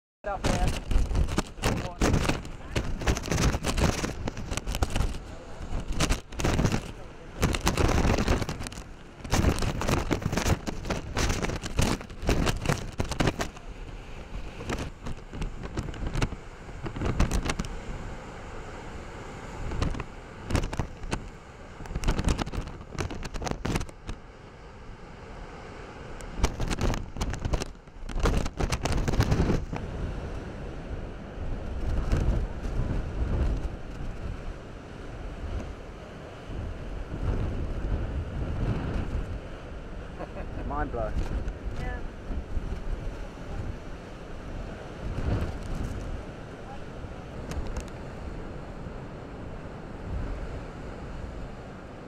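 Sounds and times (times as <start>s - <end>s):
heavy surf breaking: 0.2s - 52.0s
wind buffeting microphone: 0.2s - 52.0s.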